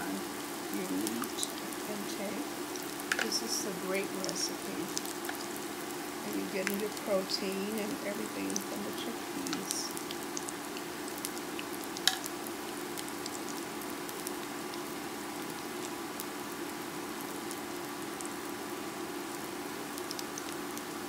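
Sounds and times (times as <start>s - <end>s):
patties sizzling in oil: 0.0s - 21.0s.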